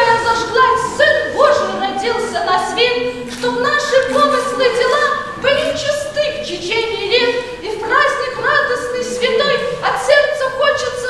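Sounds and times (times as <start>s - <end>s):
voices singing unaccompanied: 0.0s - 11.0s.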